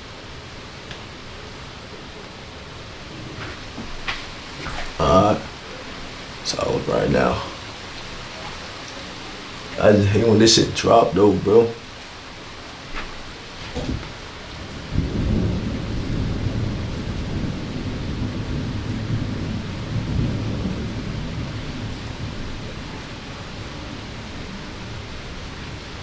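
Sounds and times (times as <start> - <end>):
rain hissing: 0.0 - 26.0
thunder rumbling: 0.0 - 26.0.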